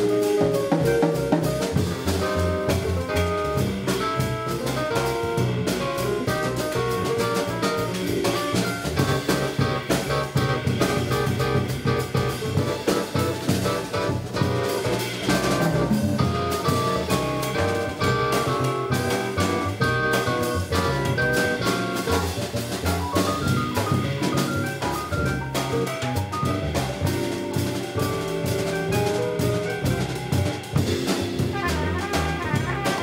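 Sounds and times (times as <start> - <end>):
electric guitar: 0.0 - 31.6
drum kit: 0.0 - 33.0
electric keyboard: 0.0 - 33.0
low bass notes: 0.0 - 33.0.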